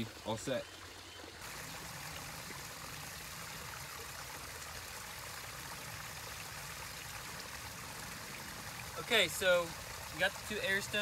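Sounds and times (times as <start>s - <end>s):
water trickling into a pond: 0.0s - 11.0s.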